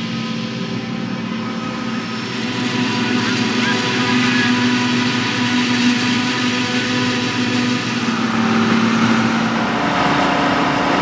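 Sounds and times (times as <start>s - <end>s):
harvester engine drone: 0.0s - 11.0s
whining machinery tones: 0.0s - 11.0s.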